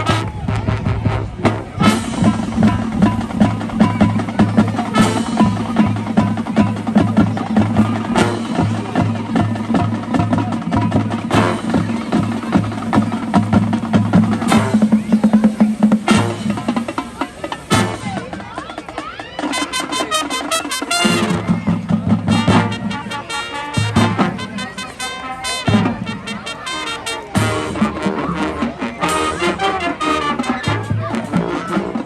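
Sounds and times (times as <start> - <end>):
marching band drums: 0.0 - 32.0.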